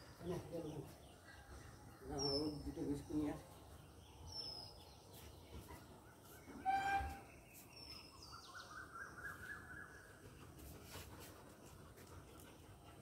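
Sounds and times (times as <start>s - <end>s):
birds chirping and warbling: 0.0s - 13.0s.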